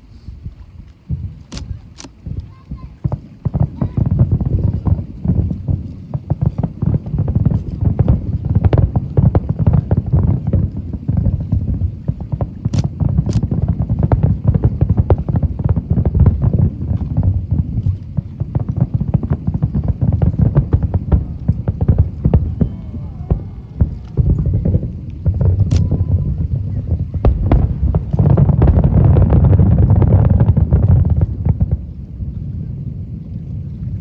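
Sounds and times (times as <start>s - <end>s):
fireworks booming: 1.0s - 34.0s
sharp firework cracks: 1.5s - 32.2s.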